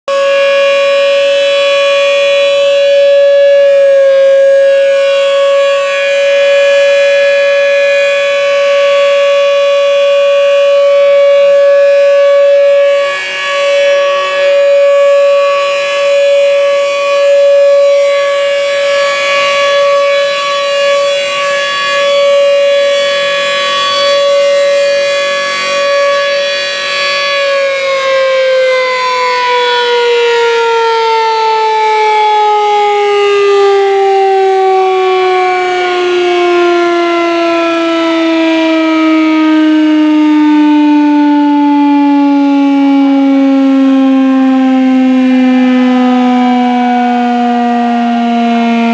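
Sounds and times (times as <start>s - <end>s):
siren long steady wail: 0.0s - 48.9s.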